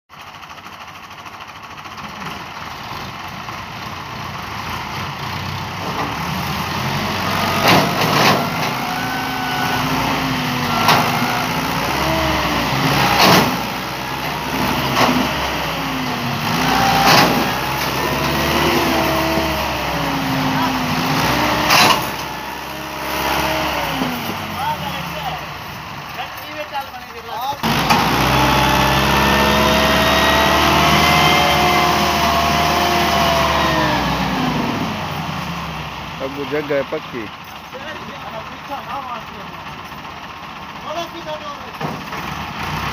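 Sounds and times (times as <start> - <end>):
tractor diesel engine revving: 0.1 - 42.9.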